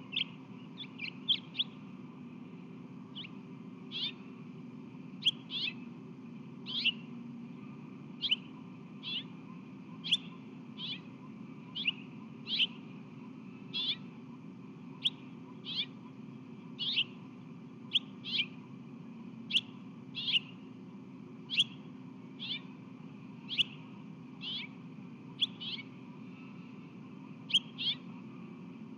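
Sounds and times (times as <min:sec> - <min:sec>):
low background hum: 0:00.0 - 0:28.9
songbird chirping: 0:00.0 - 0:28.9.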